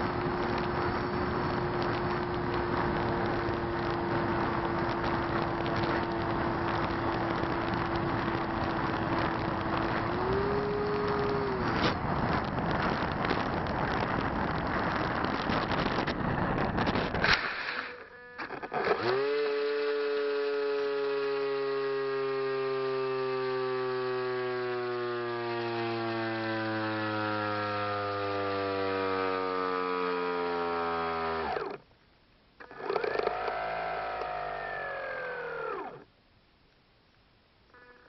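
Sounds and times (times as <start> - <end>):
electric motor whining: 0.0 - 14.2, 17.6 - 31.8, 32.6 - 36.1
model plane bumping down: 0.0 - 31.8, 32.6 - 36.1.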